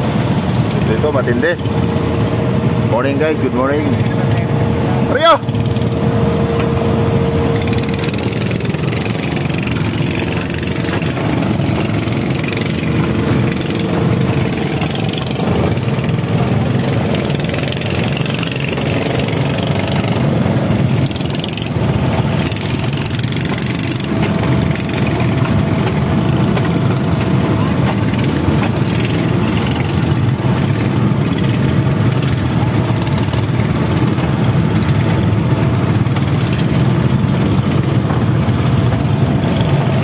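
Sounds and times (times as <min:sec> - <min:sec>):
boat engine running: 0:00.0 - 0:40.0
rushing water: 0:00.0 - 0:40.0.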